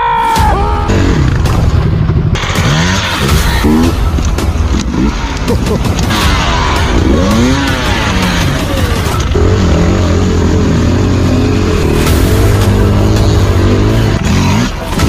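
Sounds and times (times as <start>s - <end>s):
motorcycle engines revving: 0.8s - 15.0s.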